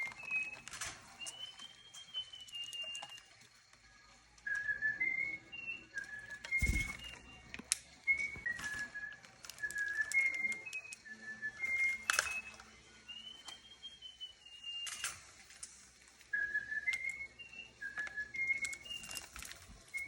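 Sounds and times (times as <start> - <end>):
person whistling a tune: 0.0 - 3.5, 4.4 - 15.4, 16.2 - 20.0.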